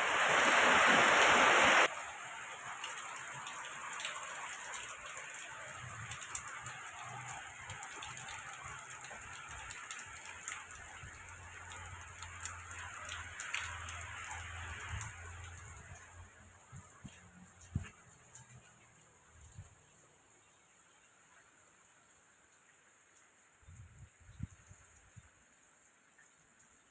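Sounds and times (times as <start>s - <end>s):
rain hiss with drop clicks: 0.0s - 26.9s.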